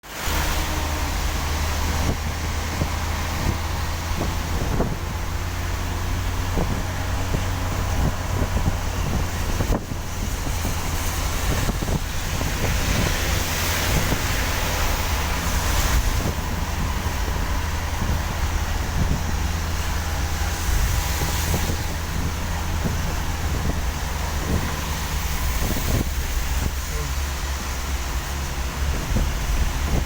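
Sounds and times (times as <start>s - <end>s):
engine and tyres rumbling: 0.0s - 30.0s
tyres hissing on wet road: 0.0s - 30.0s
wind buffeting microphone: 0.1s - 30.0s.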